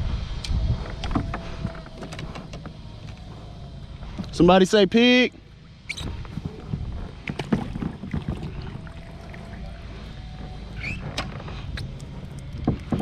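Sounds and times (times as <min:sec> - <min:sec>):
steady low rumble: 0:00.0 - 0:13.0
knocks and clatter in a kayak: 0:00.9 - 0:04.4, 0:06.0 - 0:13.0.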